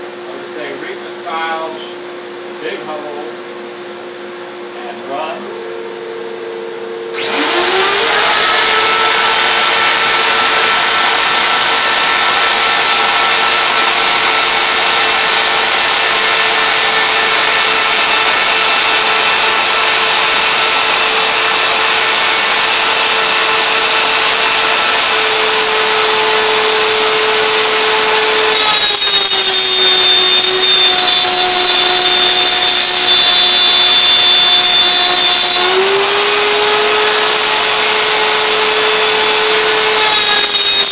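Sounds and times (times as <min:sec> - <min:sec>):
router spindle whine: 0:07.1 - 0:40.9.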